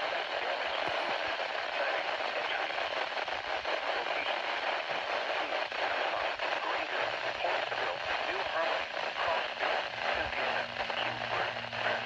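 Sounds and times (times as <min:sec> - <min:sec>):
faint voice on radio: 0:00.0 - 0:12.0
radio static hiss: 0:00.0 - 0:12.0.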